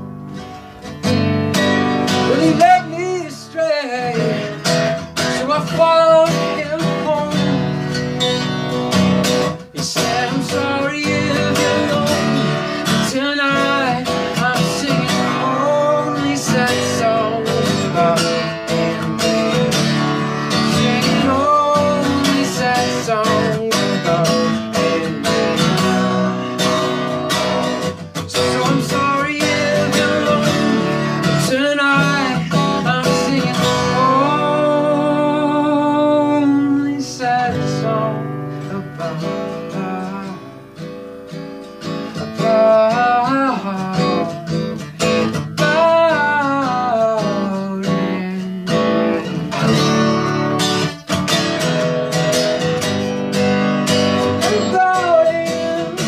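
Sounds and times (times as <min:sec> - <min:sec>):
acoustic guitar strumming: 0:00.0 - 0:56.0
man singing: 0:00.8 - 0:41.0, 0:41.8 - 0:56.0.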